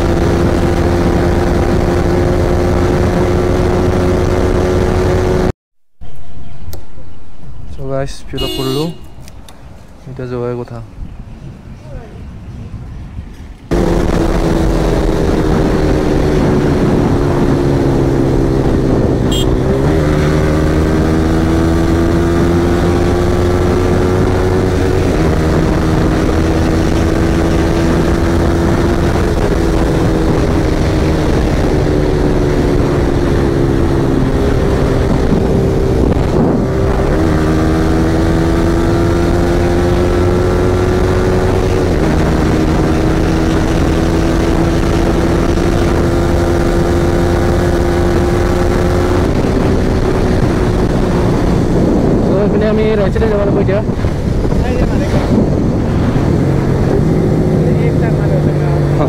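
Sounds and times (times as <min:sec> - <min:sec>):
motorcycle engine revving: 0:00.0 - 0:05.5, 0:08.3 - 0:09.5, 0:13.7 - 0:59.0
wind rush: 0:09.2 - 0:59.0.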